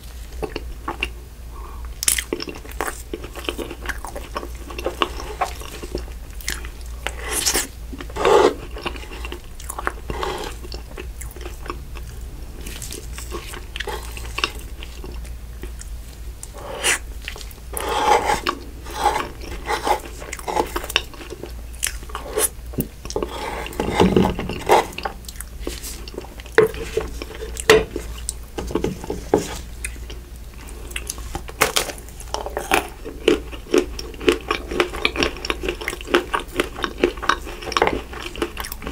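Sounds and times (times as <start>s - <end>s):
steady low hum: 0.0s - 38.9s
person chewing with mouth smacks: 0.3s - 1.2s, 1.8s - 38.9s.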